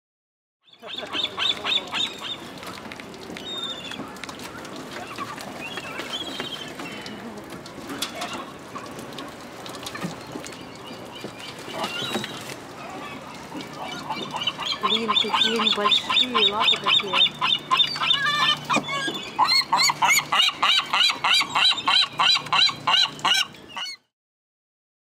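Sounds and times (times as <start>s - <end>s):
gulls calling: 0.6s - 24.1s.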